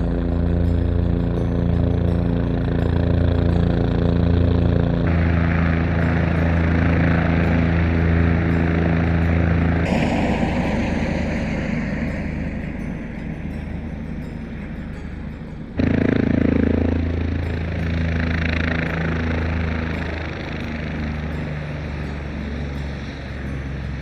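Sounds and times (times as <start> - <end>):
helicopter running: 0.0 - 24.0.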